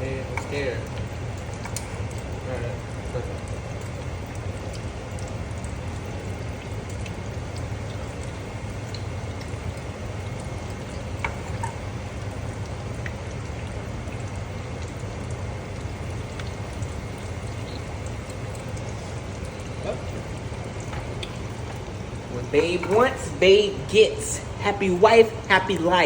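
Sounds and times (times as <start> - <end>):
chicken deep-frying in oil: 0.0 - 26.0
oil popping: 0.0 - 26.0.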